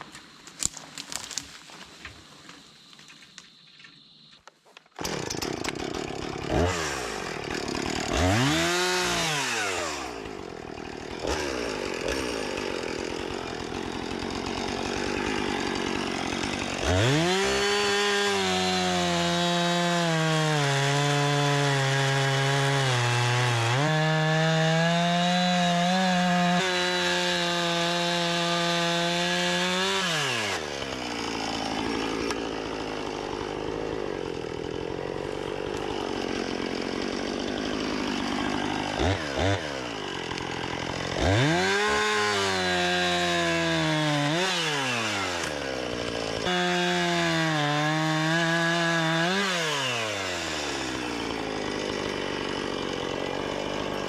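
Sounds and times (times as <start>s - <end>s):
chainsaw cutting wood: 0.0s - 4.3s, 4.9s - 54.0s.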